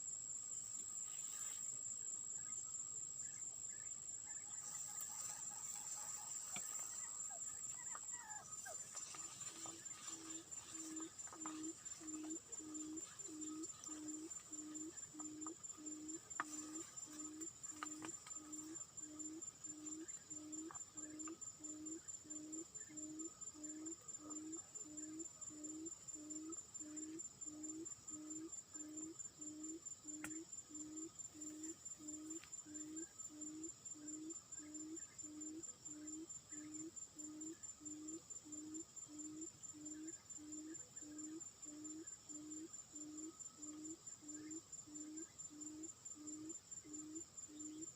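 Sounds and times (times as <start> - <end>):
high-pitched insect trill: 0.0 - 47.9.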